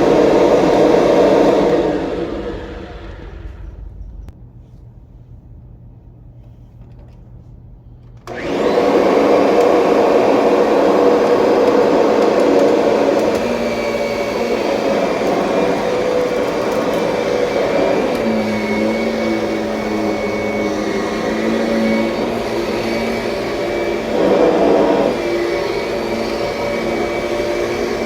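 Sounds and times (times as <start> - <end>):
vacuum cleaner motor whining: 0.0 - 4.3, 8.2 - 28.0.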